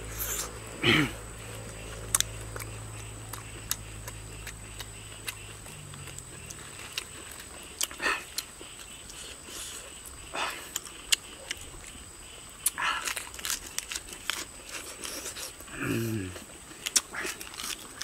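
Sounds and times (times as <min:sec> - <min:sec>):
chewing and mouth noise: 0:01.4 - 0:15.7, 0:16.3 - 0:18.0.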